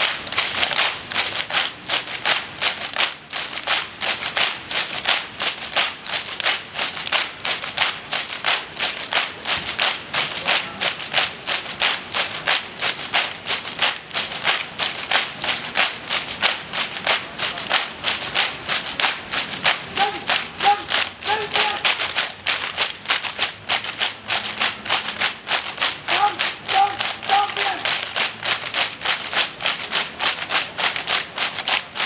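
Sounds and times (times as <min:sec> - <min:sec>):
crowd clapping in unison: 0:00.0 - 0:32.0.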